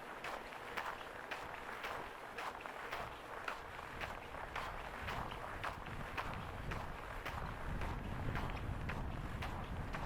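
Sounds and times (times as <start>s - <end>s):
footsteps walking: 0.0s - 10.0s.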